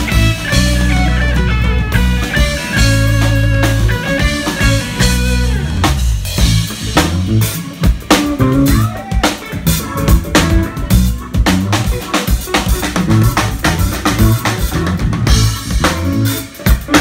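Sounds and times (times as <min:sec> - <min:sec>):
drum kit: 0:00.0 - 0:17.0
electric guitar lead lines: 0:00.0 - 0:17.0
sustained bass notes: 0:00.0 - 0:17.0.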